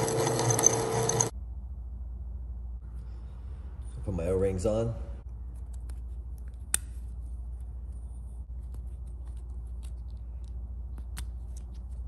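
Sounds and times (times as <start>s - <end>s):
steady low hum: 1.2s - 12.0s.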